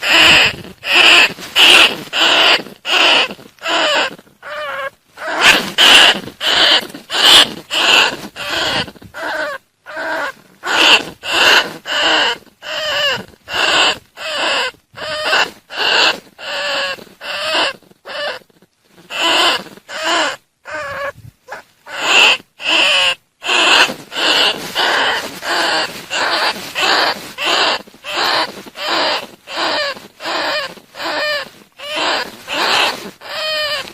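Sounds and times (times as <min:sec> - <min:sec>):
rat squeaking chirps: 0:00.0 - 0:33.9.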